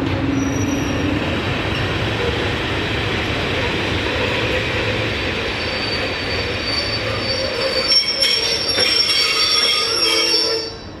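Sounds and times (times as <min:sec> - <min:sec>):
train wheels squealing on rails: 0:00.0 - 0:02.6, 0:03.3 - 0:11.0
train rolling rumble: 0:00.0 - 0:11.0.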